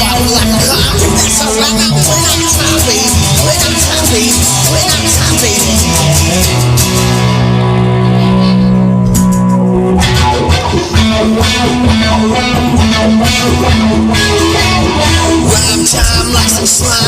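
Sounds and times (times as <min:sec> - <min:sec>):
rock music with guitar and bass: 0:00.0 - 0:17.0.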